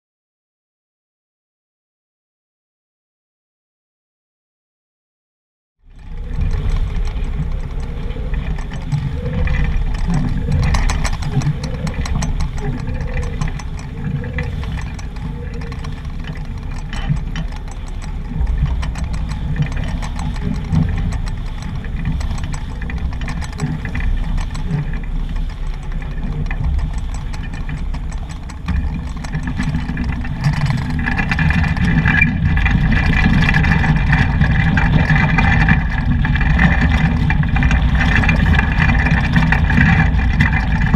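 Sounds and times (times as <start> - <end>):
water splashing along boat hull: 5.9 - 40.9
wind buffeting microphone: 5.9 - 40.9.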